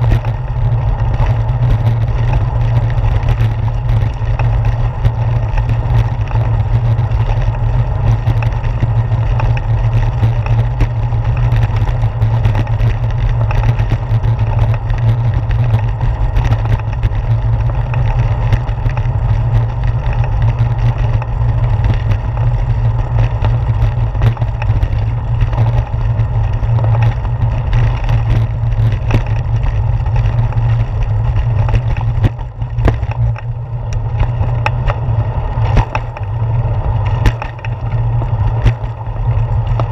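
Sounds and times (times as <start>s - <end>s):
bicycle rattles on brick pavement: 0.0s - 39.9s
wind and road rumble: 0.0s - 39.9s.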